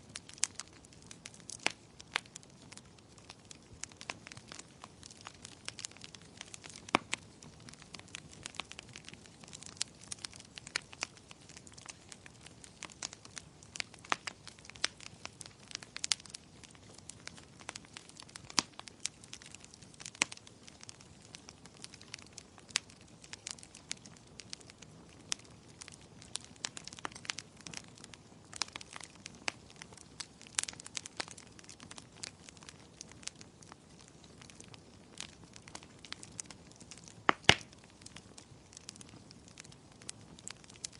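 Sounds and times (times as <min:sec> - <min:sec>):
low steady hiss of fire: 0:00.0 - 0:40.9
wood fire crackling and popping: 0:00.0 - 0:40.9.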